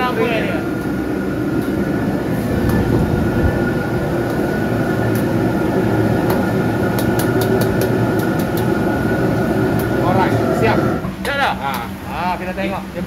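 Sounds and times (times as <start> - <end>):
liquid boiling: 0.0 - 11.2
gas burner roaring: 0.0 - 13.0.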